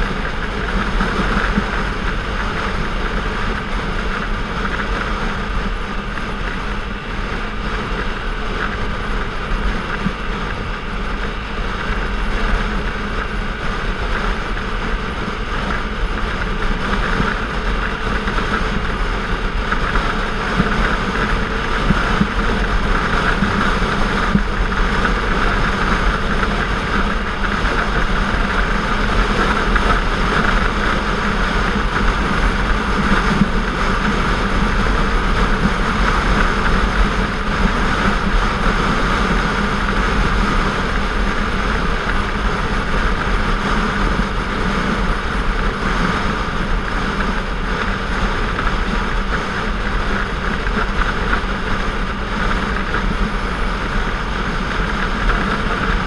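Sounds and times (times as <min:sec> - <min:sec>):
motorcycle engine cruising: 0:00.0 - 0:56.0
wind rushing over microphone: 0:00.0 - 0:56.0.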